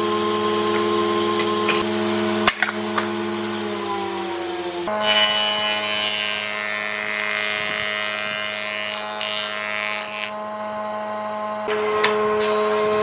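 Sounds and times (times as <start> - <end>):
power tool motor whine: 0.0 - 13.0
tool cutting wood: 0.0 - 13.0.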